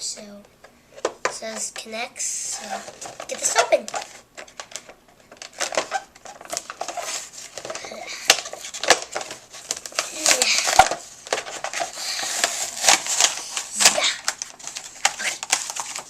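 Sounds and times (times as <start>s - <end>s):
toy packaging being torn open: 2.7s - 16.0s.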